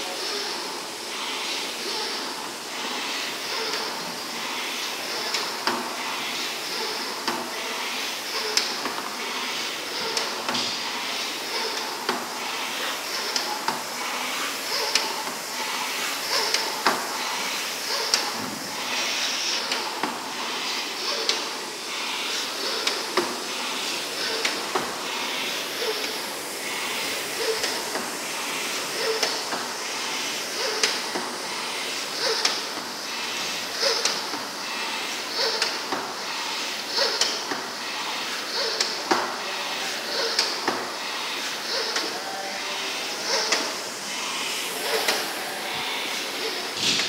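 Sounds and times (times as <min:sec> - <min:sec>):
rowing machine fan whooshing: 0:00.0 - 0:47.0.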